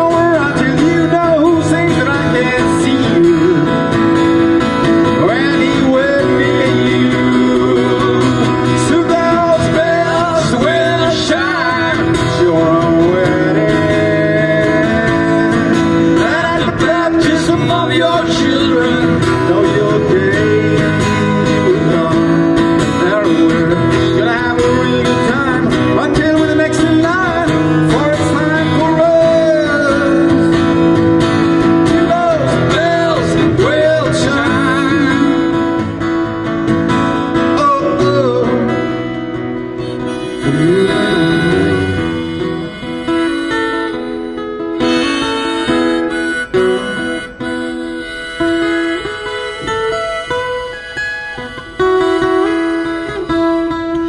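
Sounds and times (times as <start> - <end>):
acoustic guitar strumming: 0.0 - 54.0
lead melody through speakers: 0.0 - 54.0.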